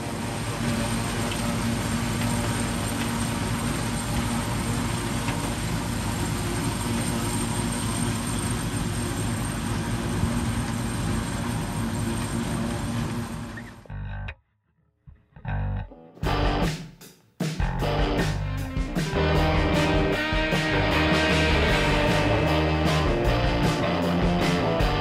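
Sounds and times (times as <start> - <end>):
forage harvester and tractor hum: 0.0 - 14.3, 17.7 - 25.0.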